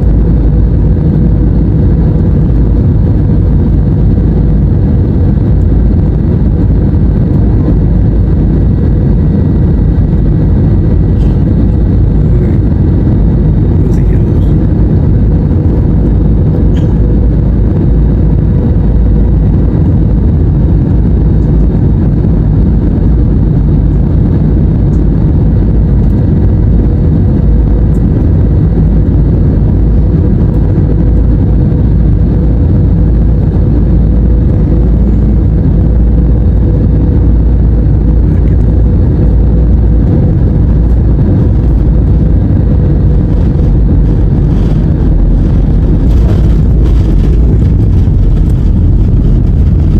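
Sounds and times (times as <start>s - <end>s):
faint steady hum: 0.0s - 49.9s
vehicle rumble from inside cabin: 0.0s - 49.9s.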